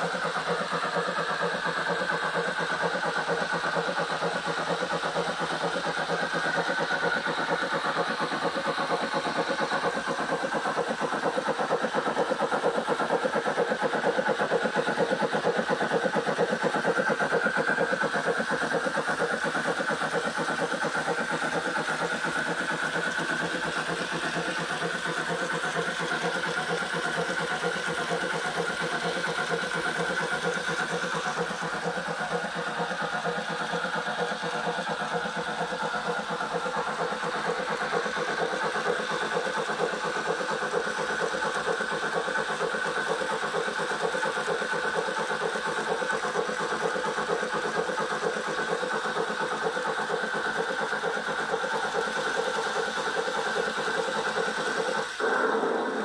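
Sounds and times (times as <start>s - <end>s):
model locomotive mechanical whir: 0.0s - 56.0s.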